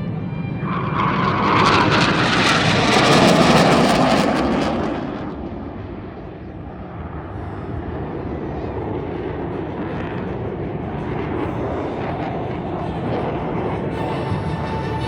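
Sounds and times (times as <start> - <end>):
jet flyby rush: 0.0 - 15.0.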